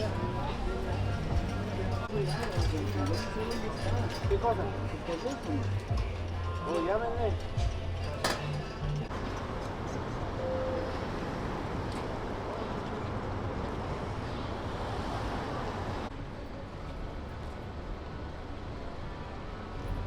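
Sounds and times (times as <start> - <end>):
engine and traffic rumble: 0.0 - 20.0.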